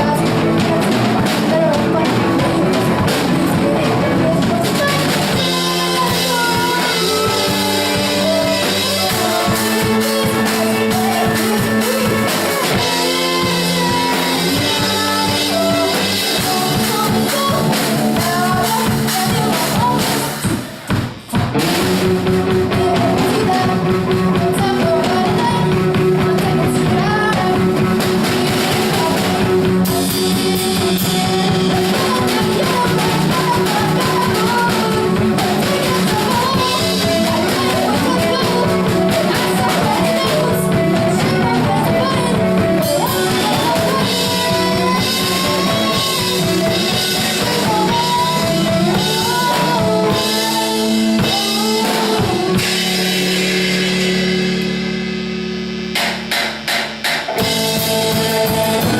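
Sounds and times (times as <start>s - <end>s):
person singing: 0.0s - 20.8s, 21.6s - 54.8s, 57.4s - 58.9s
rock band playing: 0.0s - 58.9s.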